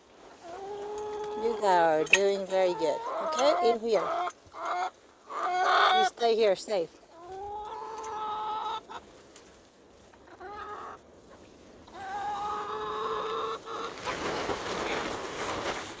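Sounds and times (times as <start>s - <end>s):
chickens calling: 0.4s - 9.2s, 10.0s - 15.6s.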